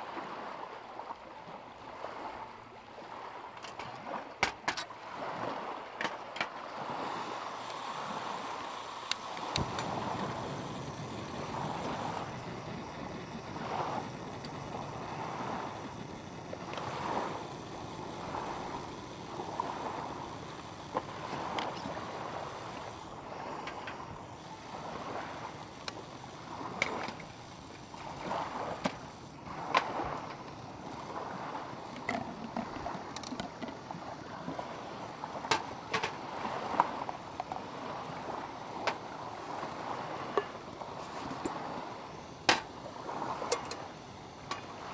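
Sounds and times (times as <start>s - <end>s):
waves lapping at shore: 0.0s - 44.9s.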